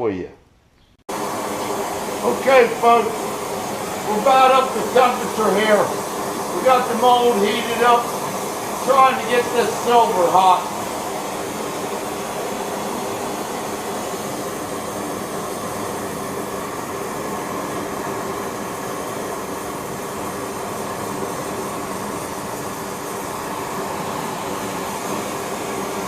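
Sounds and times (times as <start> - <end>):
steady blowing roar: 1.1 - 26.0.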